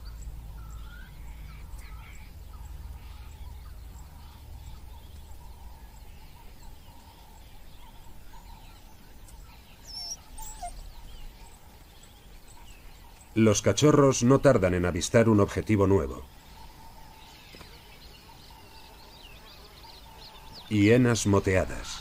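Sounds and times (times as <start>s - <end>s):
high chirping calls: 0.0s - 22.0s.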